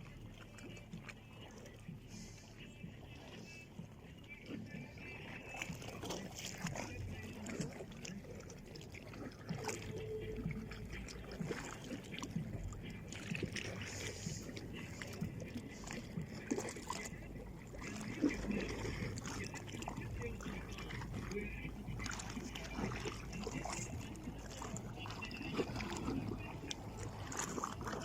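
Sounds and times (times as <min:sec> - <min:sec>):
water lapping at shore: 0:00.0 - 0:28.0
small splashes: 0:00.1 - 0:28.0
faint distant voices: 0:00.3 - 0:28.0.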